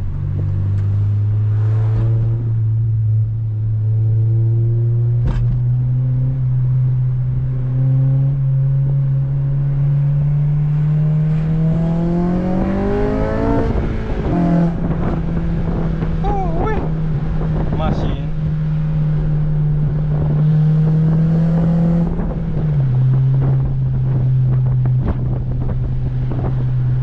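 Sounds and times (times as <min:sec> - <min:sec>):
car engine and exhaust: 0:00.0 - 0:27.0.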